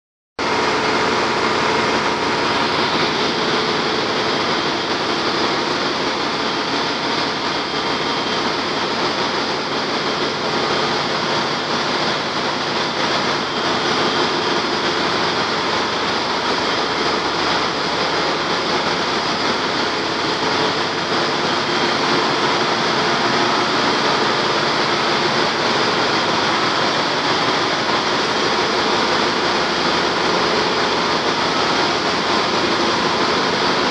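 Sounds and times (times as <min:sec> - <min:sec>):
engine room machinery drone: 0:00.4 - 0:33.9.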